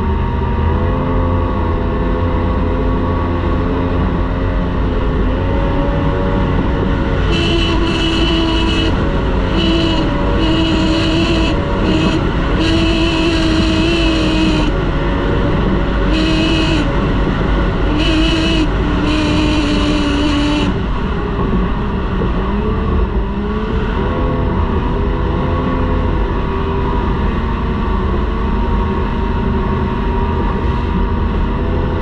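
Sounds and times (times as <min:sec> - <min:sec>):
high engine whine: 0:00.0 - 0:32.0
outboard engine running hard: 0:00.0 - 0:32.0.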